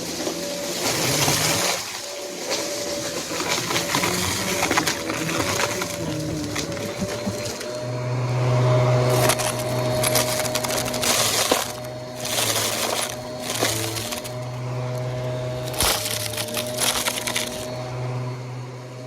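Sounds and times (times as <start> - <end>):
debris rattling through vacuum: 0.0 - 19.0
vacuum cleaner running: 0.0 - 19.0.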